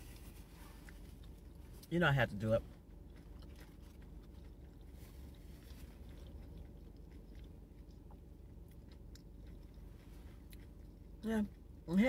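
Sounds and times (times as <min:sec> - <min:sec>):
faint chewing of sandwich: 0:00.0 - 0:12.0
steady low hum: 0:00.0 - 0:12.0.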